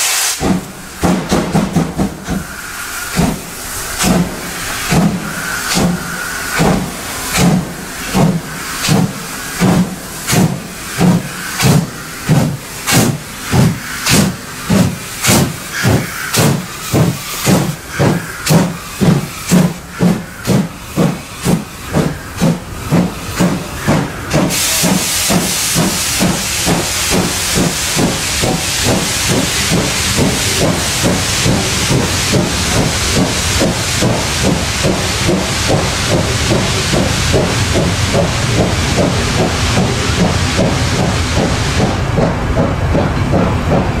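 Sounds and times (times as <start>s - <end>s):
cylinder drain cocks hissing: 0.0s - 41.2s
passenger coaches rolling by: 0.0s - 44.0s
steam locomotive exhaust beats: 0.0s - 44.0s.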